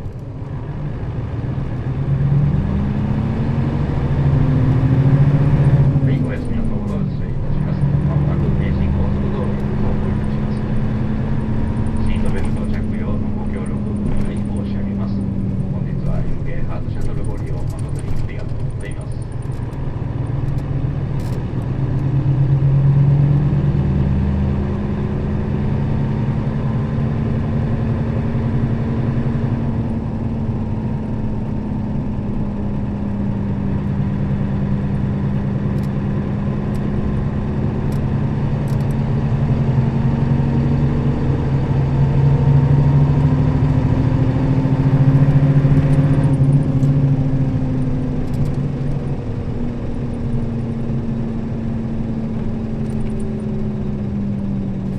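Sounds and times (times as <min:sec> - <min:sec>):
bus engine running: 0:00.0 - 0:54.9
road noise: 0:00.0 - 0:54.9.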